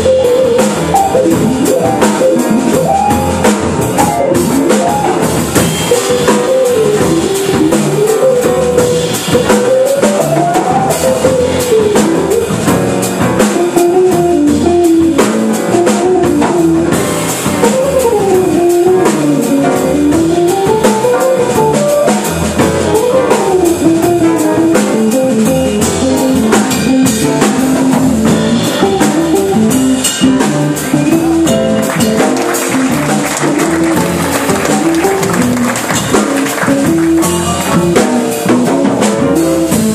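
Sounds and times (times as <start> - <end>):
drum kit: 0.0 - 39.9
electric guitar melody: 0.0 - 39.9.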